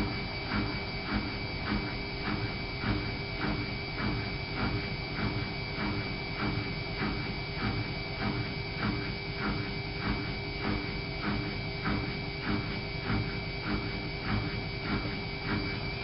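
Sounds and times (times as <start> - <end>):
washing machine motor whine: 0.0 - 16.0.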